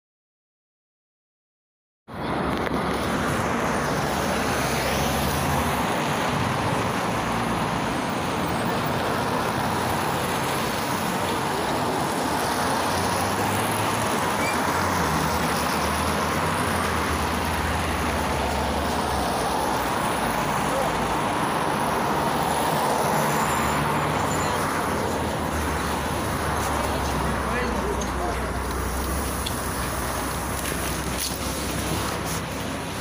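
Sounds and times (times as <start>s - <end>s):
minibus engine hum: 2.1s - 33.0s
passing cars and tyre noise: 2.1s - 33.0s.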